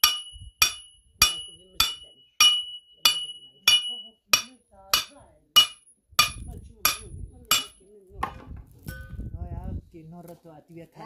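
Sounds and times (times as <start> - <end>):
hammering on metal: 0.0 - 9.1.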